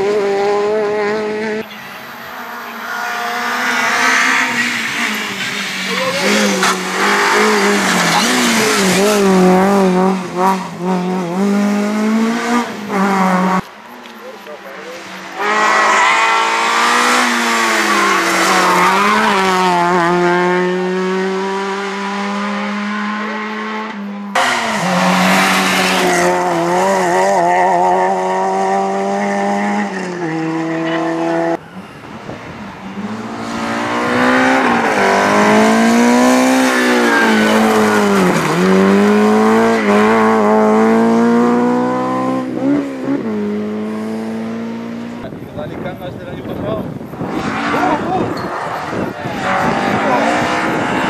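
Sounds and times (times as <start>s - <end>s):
rally car engines revving past: 0.0s - 51.0s.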